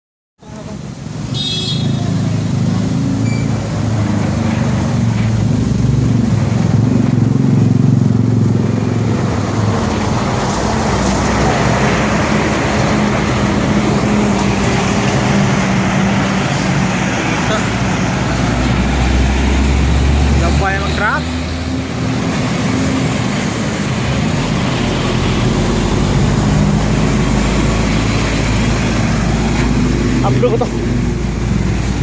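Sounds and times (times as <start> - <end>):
road noise: 0.4 - 32.0.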